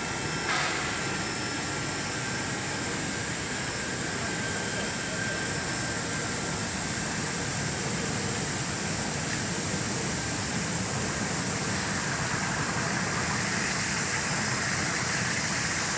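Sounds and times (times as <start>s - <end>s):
steady machine hum: 0.0s - 15.9s.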